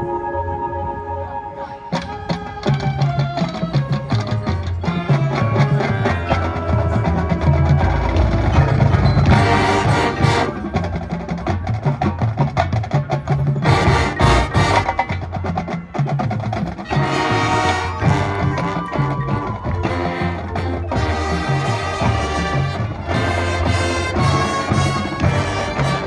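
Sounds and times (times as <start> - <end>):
busy percussion: 1.8 - 26.0
marching band playing: 1.9 - 26.0.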